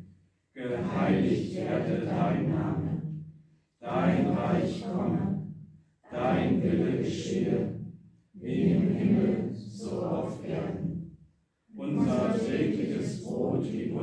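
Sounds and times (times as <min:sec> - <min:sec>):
congregation voices: 0:00.6 - 0:03.1, 0:03.8 - 0:05.5, 0:06.1 - 0:11.0, 0:11.7 - 0:14.0.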